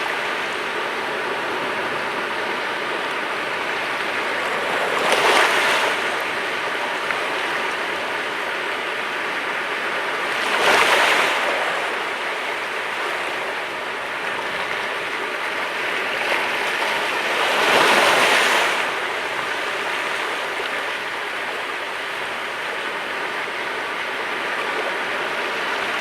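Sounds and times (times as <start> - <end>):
sea waves washing on shore: 0.0 - 26.0.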